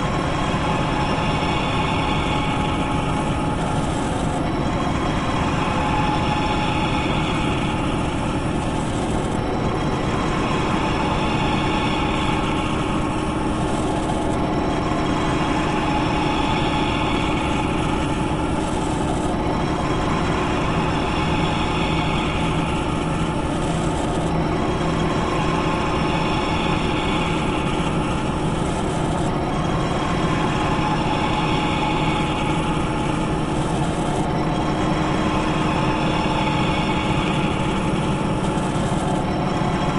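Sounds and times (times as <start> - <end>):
high whirr: 0.0 - 39.9
machinery humming: 0.0 - 39.9.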